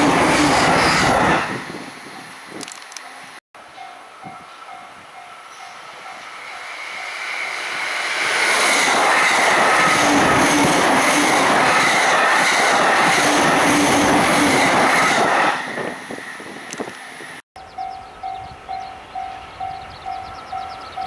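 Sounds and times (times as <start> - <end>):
train passing at high speed: 0.0 - 21.0.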